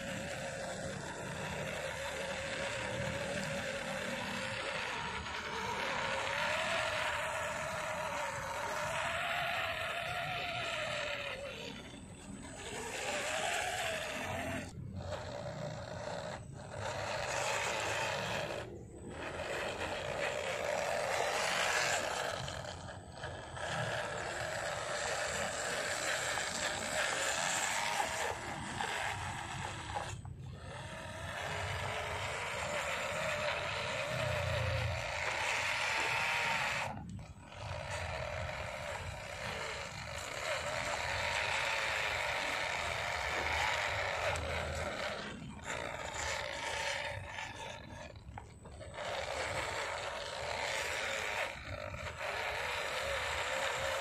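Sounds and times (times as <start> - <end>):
toy truck motor whining: 0.0 - 54.0.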